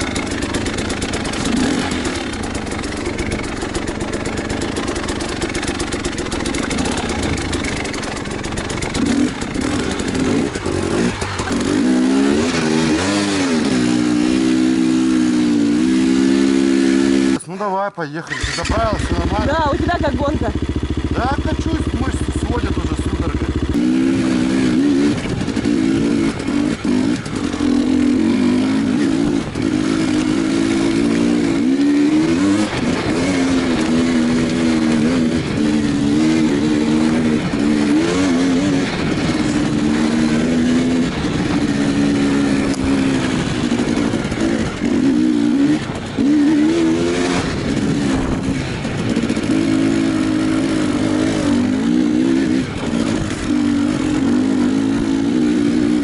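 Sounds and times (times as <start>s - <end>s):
motorcycle engine revving: 0.0s - 17.4s, 18.2s - 56.0s.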